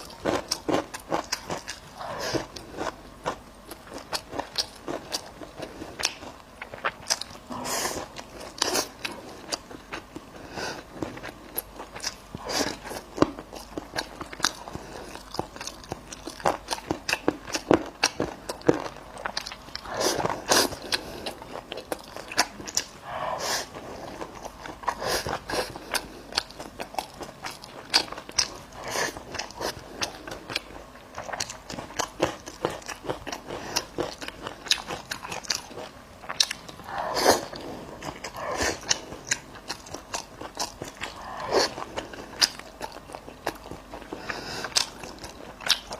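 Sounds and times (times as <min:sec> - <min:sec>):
person chewing meat: 0:00.0 - 0:45.9.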